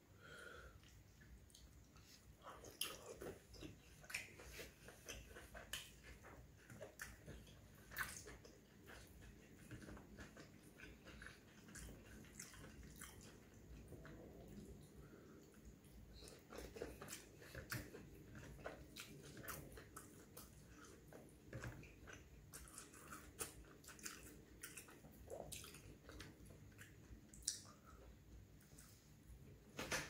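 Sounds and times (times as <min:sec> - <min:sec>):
man chewing and biting: 0:01.5 - 0:14.2, 0:16.1 - 0:28.1.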